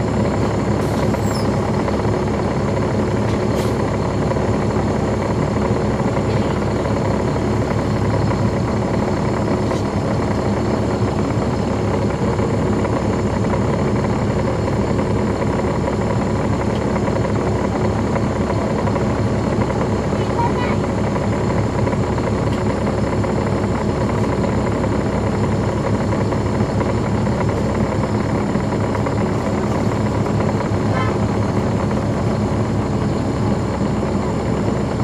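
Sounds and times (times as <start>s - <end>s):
bus diesel engine running: 0.0s - 35.0s.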